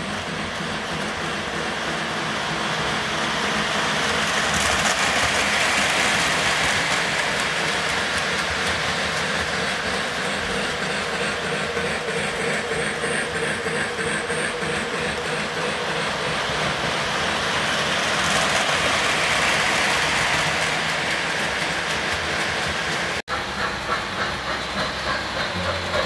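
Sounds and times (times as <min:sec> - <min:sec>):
model train wheels on rail: 0:00.0 - 0:26.0.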